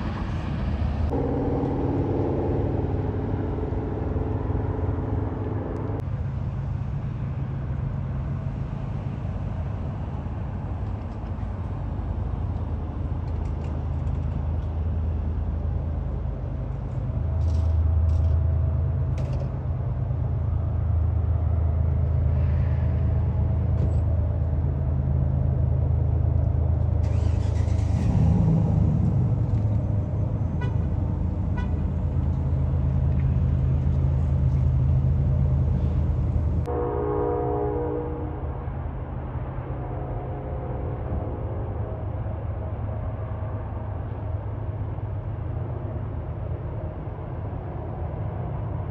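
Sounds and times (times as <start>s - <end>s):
heavy trucks diesel rumble: 0.0s - 48.9s.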